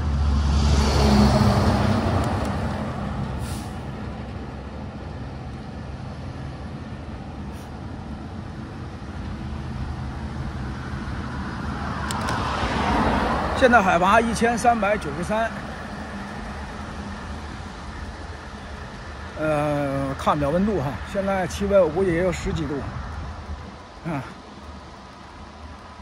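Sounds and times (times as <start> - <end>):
vehicle passing: 0.0 - 5.2, 6.0 - 26.0
road noise: 0.0 - 26.0
truck engine rumbling: 0.0 - 26.0.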